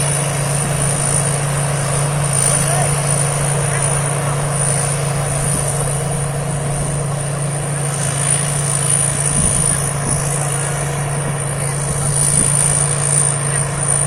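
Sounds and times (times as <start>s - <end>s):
combine harvester engine droning: 0.0s - 14.0s.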